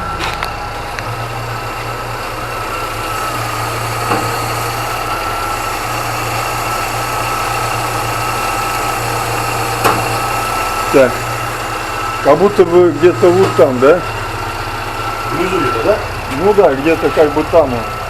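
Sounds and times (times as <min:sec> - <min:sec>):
car engine idling with high whine: 0:00.0 - 0:18.0.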